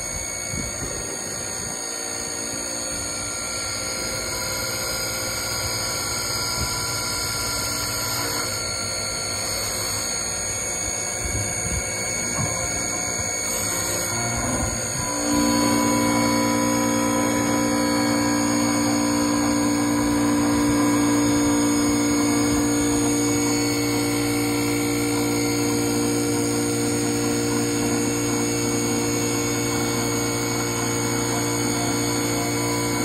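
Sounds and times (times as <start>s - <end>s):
wood lathe machine whine: 0.0s - 33.0s.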